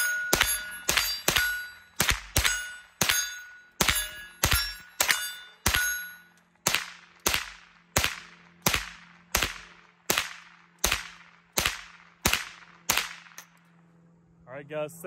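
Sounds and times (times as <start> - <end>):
rifle shots: 0.0 - 6.0, 6.6 - 13.5.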